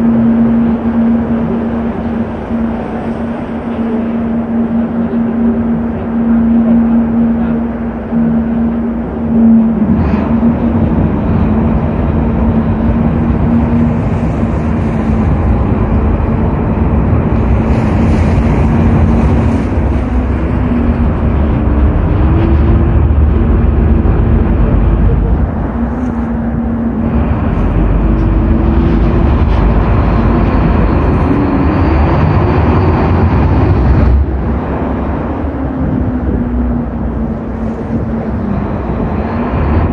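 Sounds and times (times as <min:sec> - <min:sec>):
boat engines droning: 0:00.0 - 0:39.9
rushing wind and water: 0:00.0 - 0:39.9.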